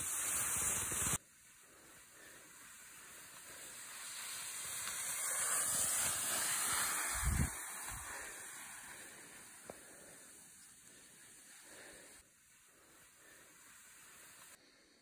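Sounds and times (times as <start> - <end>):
skis sliding over snow: 0.0 - 14.6.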